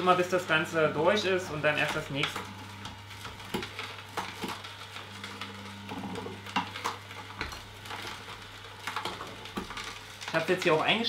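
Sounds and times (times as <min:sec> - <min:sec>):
juicer motor hum: 0:00.0 - 0:11.0.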